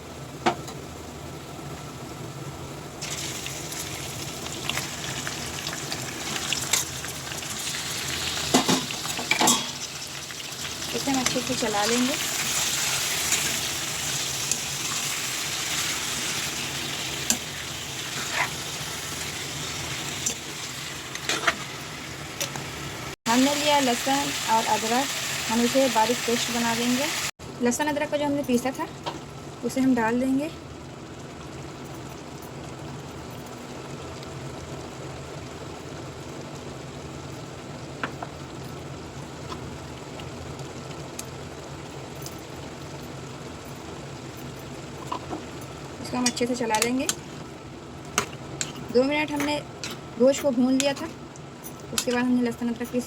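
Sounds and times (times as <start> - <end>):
chicken sizzling in hot oil: 2.9 - 27.8, 33.8 - 53.0.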